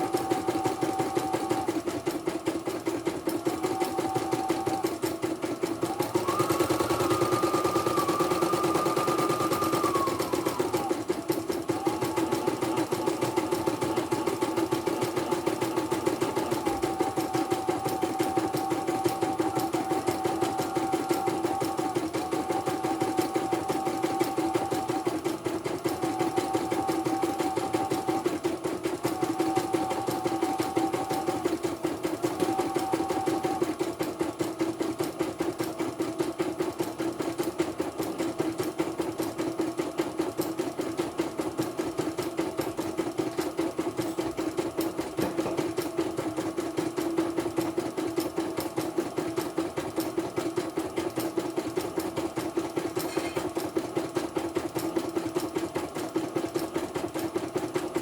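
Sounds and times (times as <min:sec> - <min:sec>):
embroidery machine needle clatter: 0:00.1 - 0:58.0.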